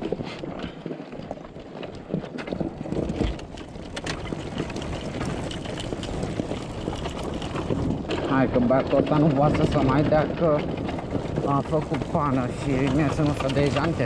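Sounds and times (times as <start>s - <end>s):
knocks and rattles: 0.0s - 14.0s
quad bike riding over dirt: 0.0s - 14.0s
wind buffeting microphone: 0.0s - 14.0s.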